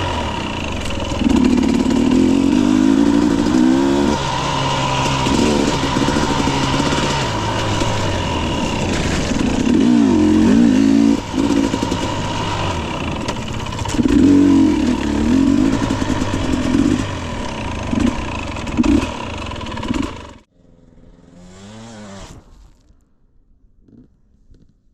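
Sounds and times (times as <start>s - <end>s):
dirt bike engine revving: 0.0s - 22.7s.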